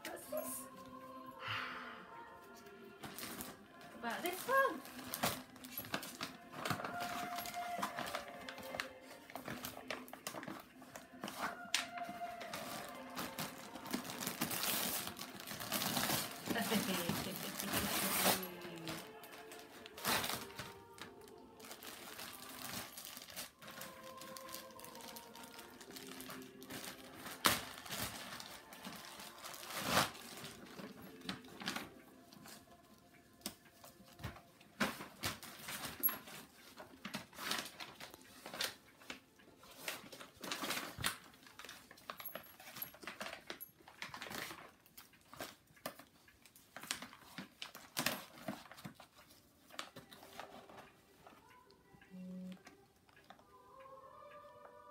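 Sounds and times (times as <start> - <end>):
paper rustling and crinkling: 2.9 - 32.6, 33.4 - 51.4.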